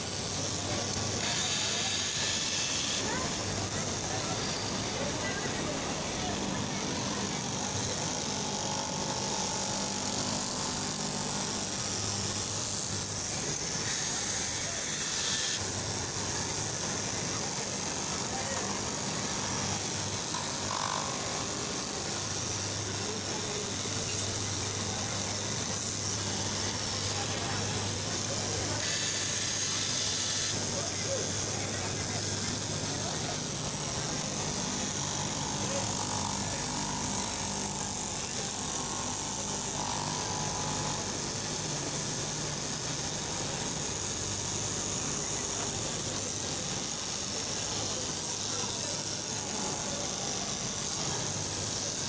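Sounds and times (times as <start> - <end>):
fabric cutting machine humming: 0.0 - 52.0.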